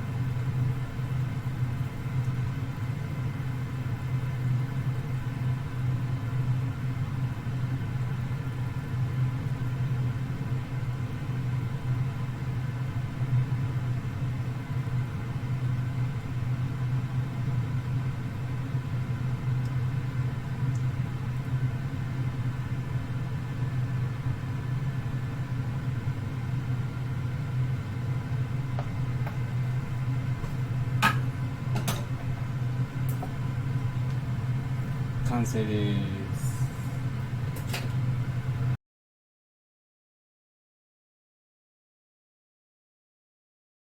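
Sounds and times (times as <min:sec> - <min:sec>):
low mechanical hum: 0:00.0 - 0:38.8.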